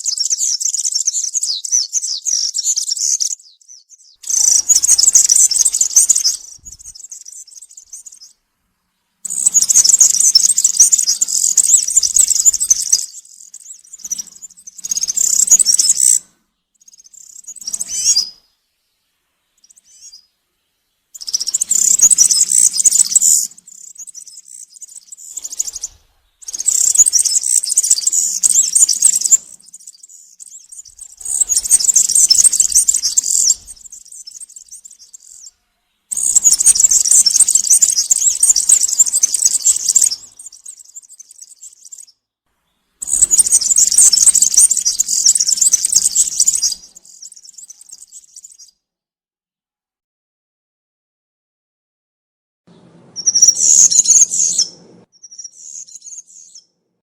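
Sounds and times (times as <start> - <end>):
bird singing rapid high phrases: 0.0 - 8.4, 9.2 - 18.5, 19.6 - 20.4, 21.1 - 42.2, 43.0 - 48.8, 52.7 - 56.7.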